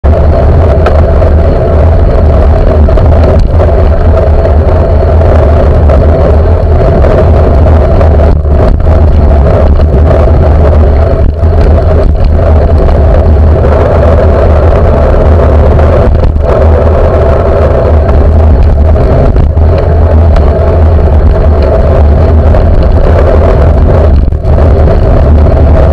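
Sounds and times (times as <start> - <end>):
bicycle road noise rumble: 0.0 - 25.9.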